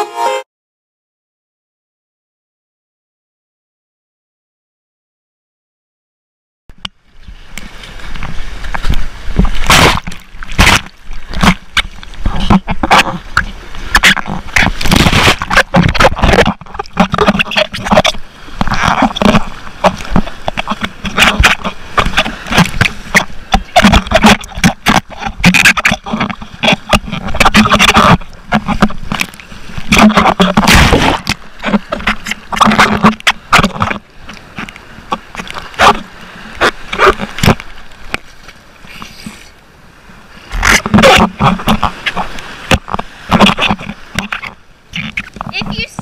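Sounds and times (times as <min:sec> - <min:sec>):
surf splashing over camera: 0:07.3 - 0:46.0.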